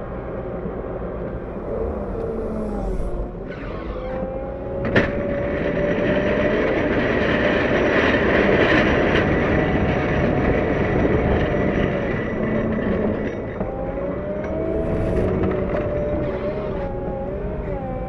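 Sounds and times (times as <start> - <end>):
loader diesel engine whining: 0.0 - 18.0.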